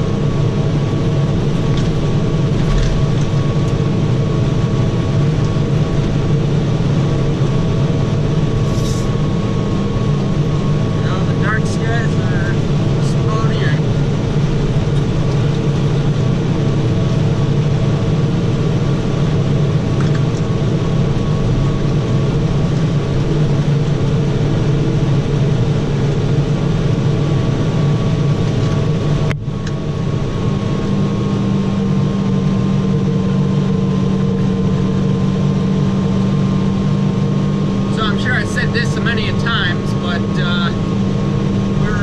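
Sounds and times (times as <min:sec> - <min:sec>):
tractor engine droning: 0:00.0 - 0:42.0.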